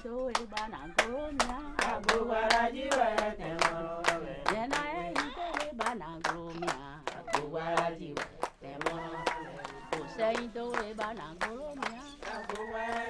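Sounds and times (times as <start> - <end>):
rhythmic handclapping: 0.0 - 13.0
voices singing together: 0.0 - 13.0.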